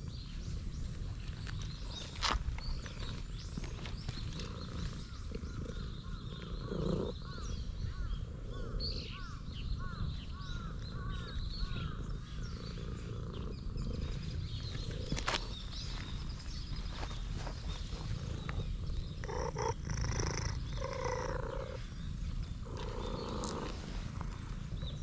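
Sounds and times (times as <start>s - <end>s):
bird chirping: 0.0s - 25.0s
cat purring loudly: 0.0s - 25.0s.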